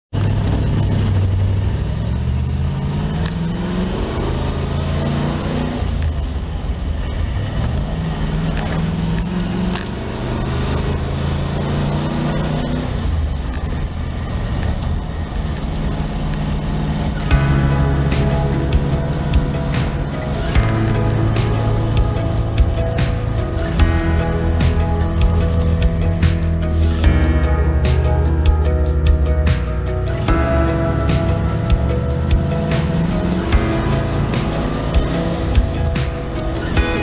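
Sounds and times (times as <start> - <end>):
wind and road noise: 0.1 - 37.0
truck engine accelerating: 0.2 - 37.0.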